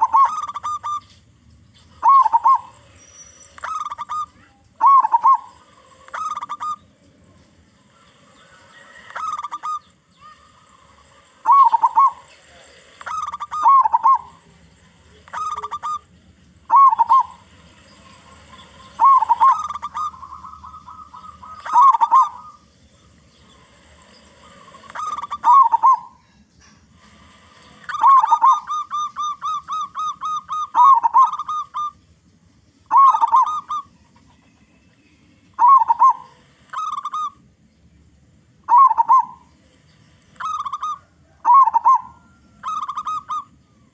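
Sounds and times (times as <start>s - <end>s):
dove cooing: 0.0s - 1.2s, 1.8s - 7.1s, 7.8s - 32.0s, 32.9s - 34.8s, 35.5s - 37.4s, 38.6s - 43.9s.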